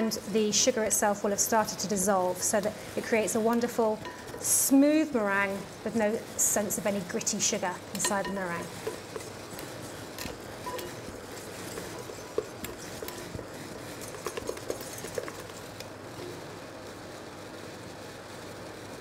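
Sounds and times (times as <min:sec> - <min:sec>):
water simmering in a saucepan: 0:00.0 - 0:17.3.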